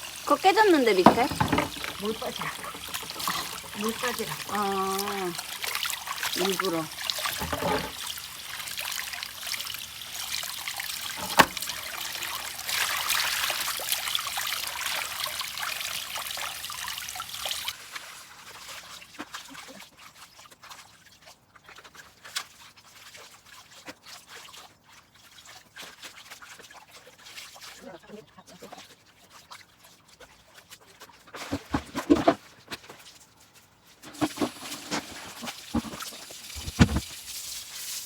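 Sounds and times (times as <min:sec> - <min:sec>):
water trickling through washbasin: 0:00.0 - 0:38.0.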